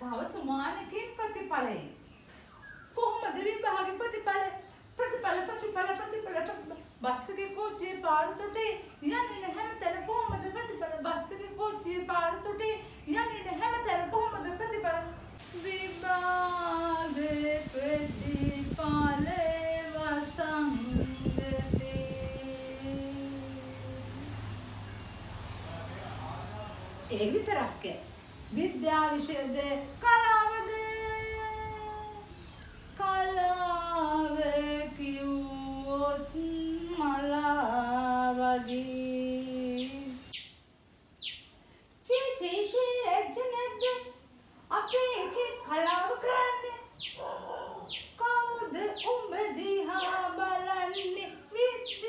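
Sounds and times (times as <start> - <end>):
woman singing unaccompanied: 3.0 - 24.9, 27.1 - 40.4, 42.0 - 47.2, 47.8 - 52.0.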